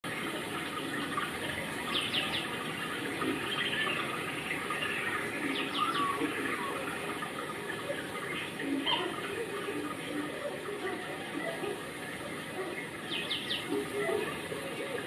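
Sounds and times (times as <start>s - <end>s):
birds chirping: 0.2s - 15.0s.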